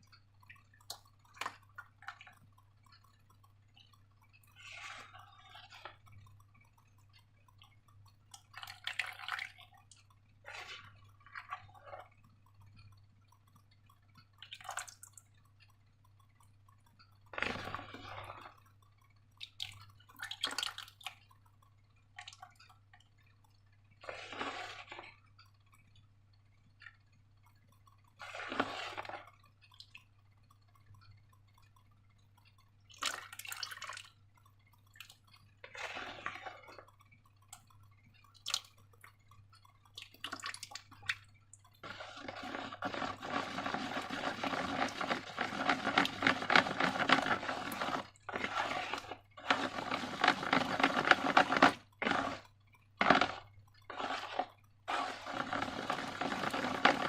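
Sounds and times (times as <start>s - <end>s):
wet slime squelching: 0.0s - 26.1s, 27.6s - 57.0s
slime dripping: 0.0s - 57.0s.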